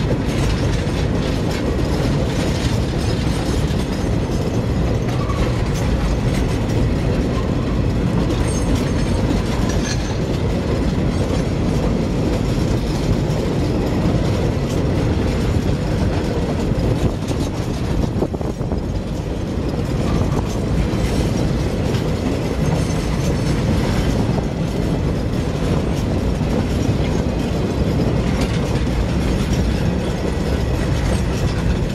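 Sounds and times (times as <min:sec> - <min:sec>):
freight train wheels on rails: 0:00.0 - 0:31.9.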